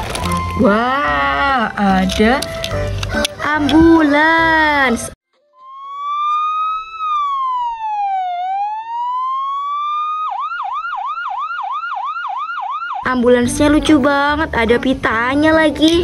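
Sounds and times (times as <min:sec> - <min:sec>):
ambulance siren wailing and yelping: 0:00.0 - 0:13.4.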